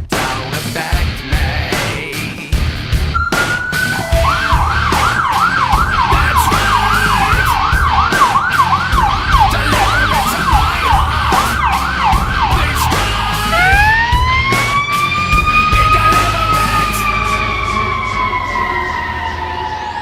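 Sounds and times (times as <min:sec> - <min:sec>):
siren yelping: 0:03.2 - 0:20.0.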